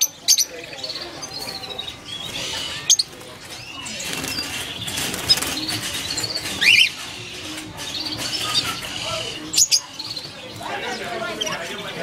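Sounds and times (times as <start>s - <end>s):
bird chirping: 0.0s - 11.9s.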